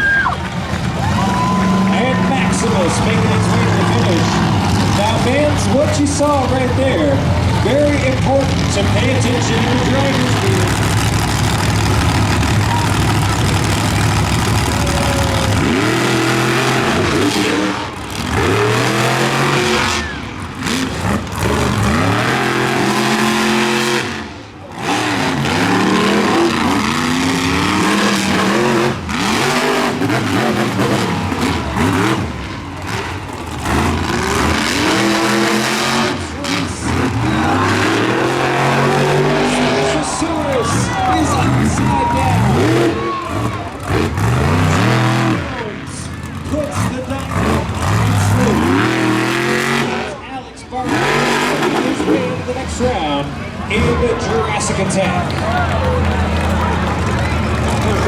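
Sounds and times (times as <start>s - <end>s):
truck engines revving hard: 0.0s - 58.0s.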